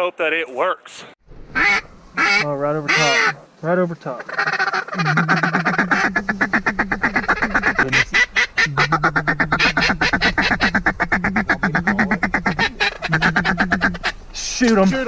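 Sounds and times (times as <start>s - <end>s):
duck call chattering: 1.6s - 3.4s, 4.1s - 15.0s.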